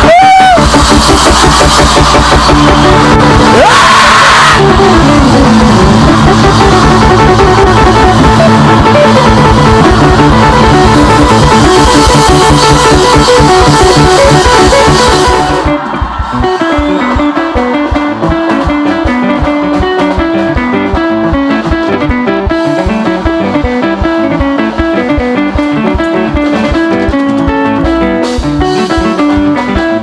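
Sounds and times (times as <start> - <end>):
upbeat electric guitar music: 0.0 - 30.0.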